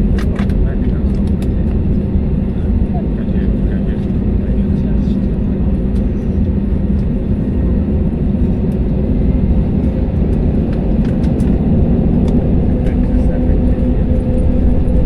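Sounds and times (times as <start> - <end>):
jet engine cabin roar: 0.0 - 15.0
low hum: 0.0 - 15.0.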